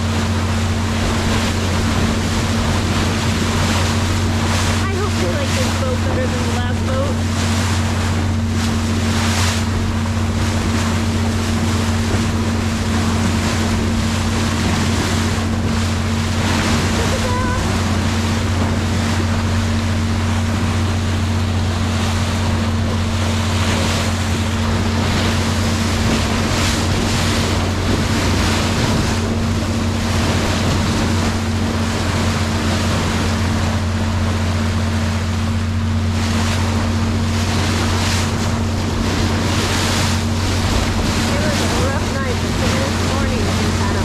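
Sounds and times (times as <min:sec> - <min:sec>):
boat diesel engine droning: 0:00.0 - 0:44.0
water rushing along hull: 0:00.0 - 0:44.0
wind buffeting microphone: 0:00.0 - 0:44.0.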